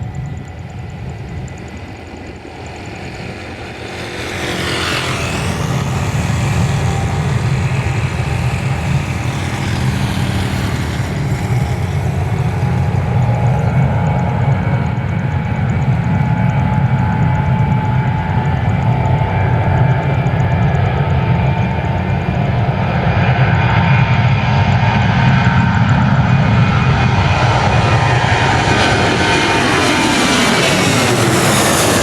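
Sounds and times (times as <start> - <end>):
jet engine whine: 0.0 - 32.0
jet noise rumble: 0.0 - 32.0.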